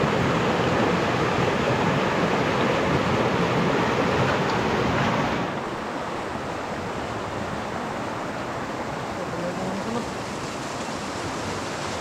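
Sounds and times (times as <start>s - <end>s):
fast-flowing river water: 0.0s - 12.0s.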